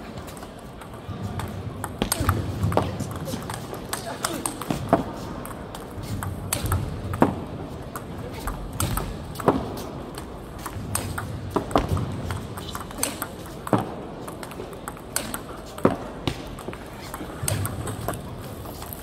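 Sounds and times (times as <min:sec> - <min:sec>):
hall background noise: 0:00.0 - 0:19.0
ping pong ball clicking: 0:00.8 - 0:19.0.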